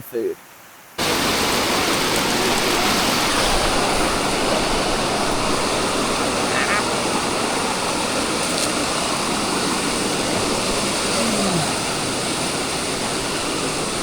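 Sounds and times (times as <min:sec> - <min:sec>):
waterfall rushing over rocks: 0:01.0 - 0:14.0.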